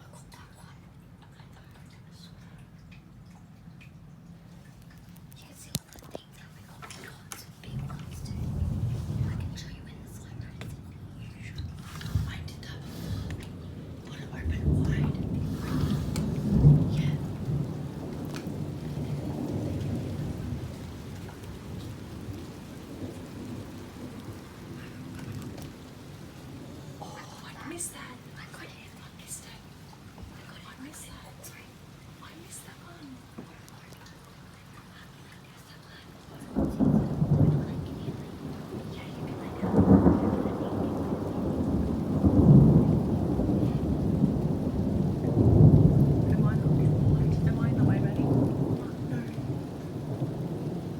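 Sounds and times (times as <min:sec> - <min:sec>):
steady rain falling: 0:00.0 - 0:50.9
thunder rumbling: 0:07.5 - 0:34.6, 0:35.9 - 0:50.9.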